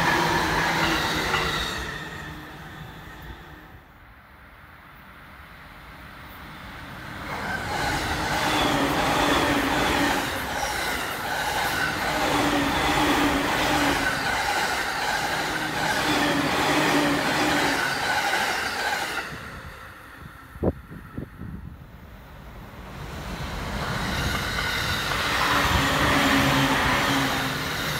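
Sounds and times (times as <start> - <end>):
electric train passing: 0.0 - 27.9
train wheels humming on rails: 0.0 - 27.9.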